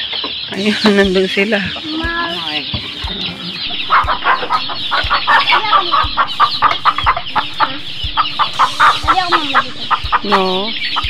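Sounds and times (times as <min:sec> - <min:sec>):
chickens clucking and peeping: 0:00.0 - 0:11.0.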